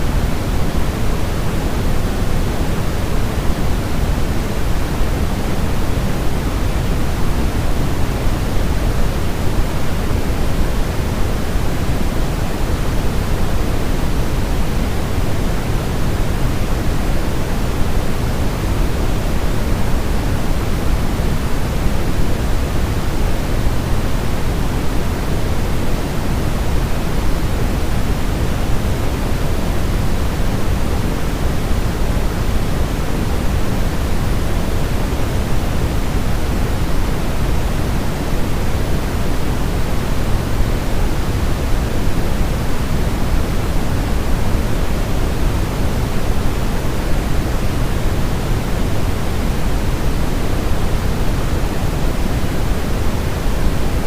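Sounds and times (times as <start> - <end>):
low white noise hiss: 0.0 - 54.0.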